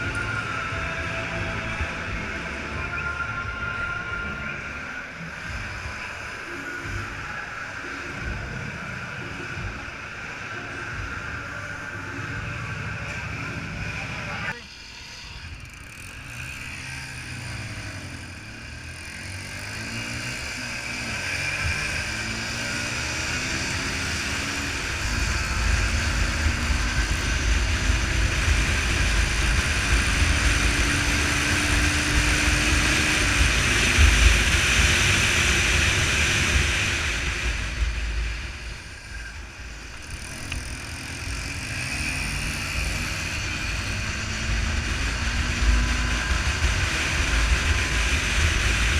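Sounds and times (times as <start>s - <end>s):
motorcycle engines revving past: 8.0s - 48.9s.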